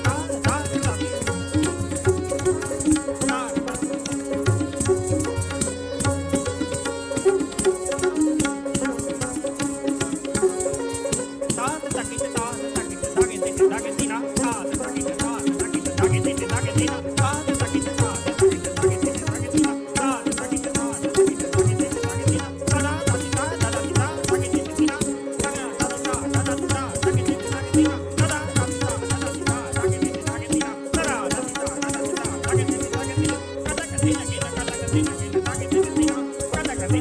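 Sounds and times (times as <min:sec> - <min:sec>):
tabla strokes: 0:00.0 - 0:37.0.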